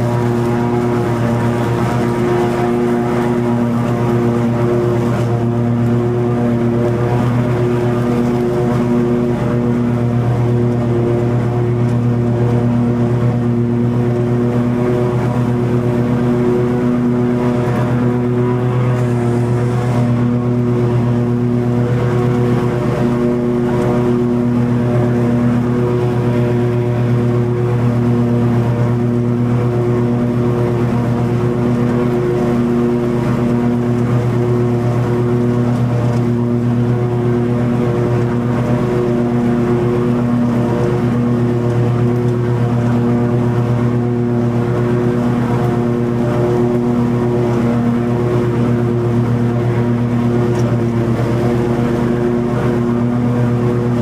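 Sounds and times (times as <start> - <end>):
lawn mower engine drone: 0.0 - 54.0.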